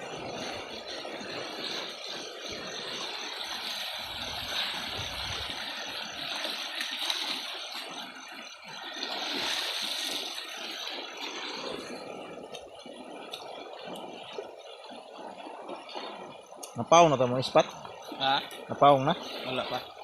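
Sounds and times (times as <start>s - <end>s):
water splashing and gurgling: 0.0s - 20.0s.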